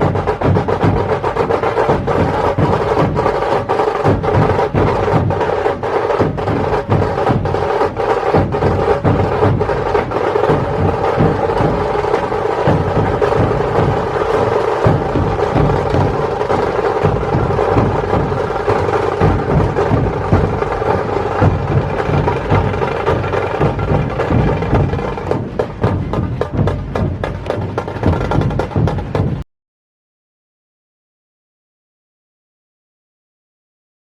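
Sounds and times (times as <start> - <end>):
fast drumming: 0.0 - 29.4.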